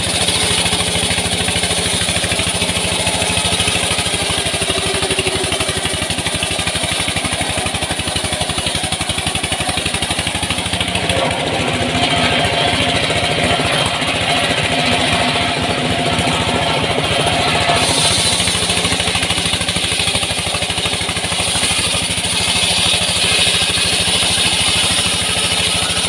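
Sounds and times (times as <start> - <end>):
small engine driving saw: 0.0 - 26.0.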